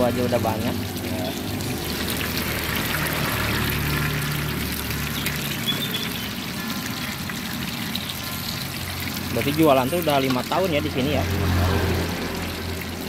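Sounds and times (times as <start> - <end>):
dumplings sizzling in hot oil: 0.0 - 13.0.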